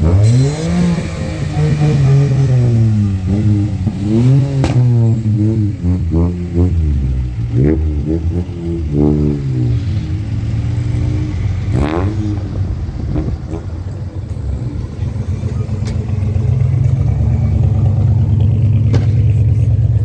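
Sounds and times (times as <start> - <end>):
car engines blipping: 0.0 - 20.0.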